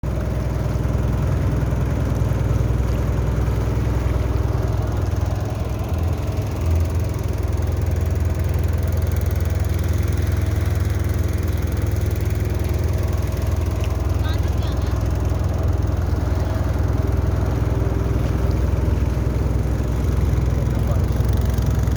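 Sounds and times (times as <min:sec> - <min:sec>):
boat engine running: 0:00.0 - 0:21.9.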